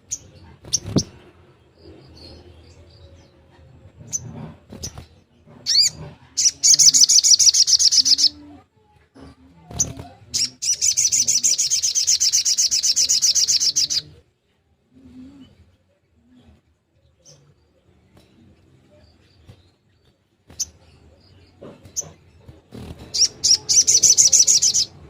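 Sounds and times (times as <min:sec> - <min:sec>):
bird calls and trills: 0:00.0 - 0:08.6, 0:09.6 - 0:14.4, 0:15.1 - 0:25.0.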